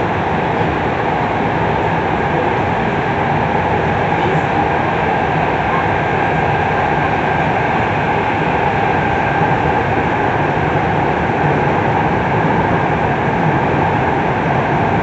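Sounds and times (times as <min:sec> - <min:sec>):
electric train running in tunnel: 0:00.0 - 0:15.0.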